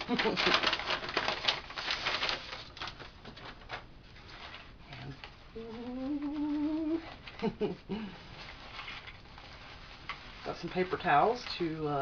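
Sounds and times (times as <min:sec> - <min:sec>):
paper towels rustling: 0:00.0 - 0:12.0
plastic bag crinkling: 0:00.0 - 0:12.0.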